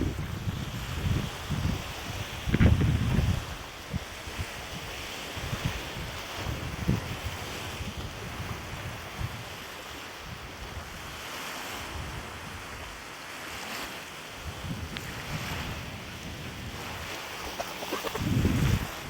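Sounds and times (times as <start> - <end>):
wind buffeting microphone: 0.0 - 13.6, 14.3 - 19.0
lapping lake water: 0.0 - 19.0.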